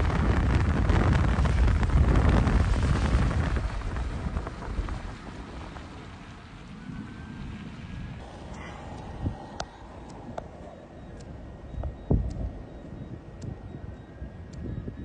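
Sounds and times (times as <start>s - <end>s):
rain: 0.0s - 12.8s
storm wind buffeting microphone: 0.0s - 15.0s.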